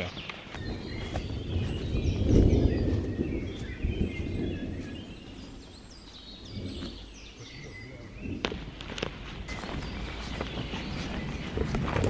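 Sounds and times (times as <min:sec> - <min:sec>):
footsteps on forest floor: 0:00.0 - 0:07.3, 0:08.4 - 0:12.0
songbirds chirping: 0:00.0 - 0:12.0.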